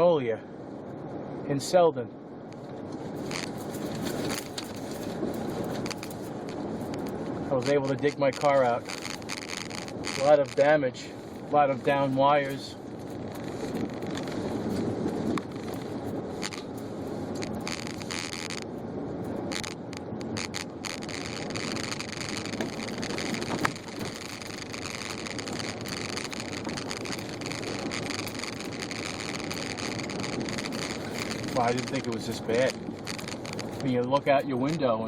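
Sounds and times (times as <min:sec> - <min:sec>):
tyre and road noise on snow: 0:00.0 - 0:35.0.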